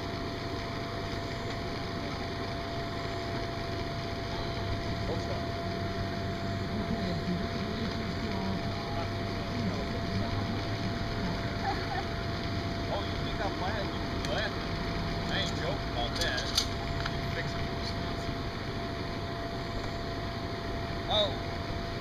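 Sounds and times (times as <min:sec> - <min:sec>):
blower fan humming with whine: 0:00.0 - 0:22.0.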